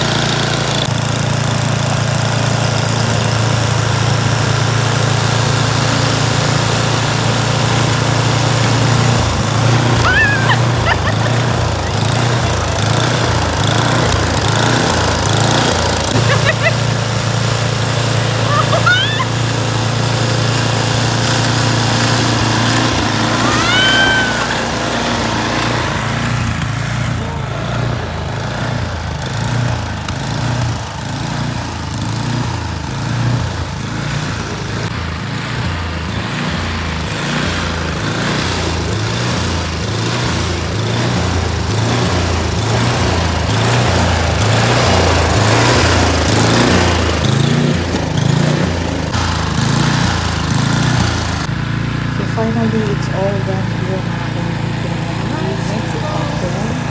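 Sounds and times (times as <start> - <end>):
snowblower engine running: 0.0 - 56.9.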